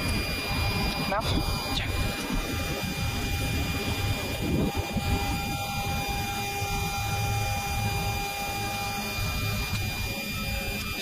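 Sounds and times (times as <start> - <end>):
faint steady whine tones: 0.0 - 11.0
jet engines and airflow rumbling: 0.0 - 11.0.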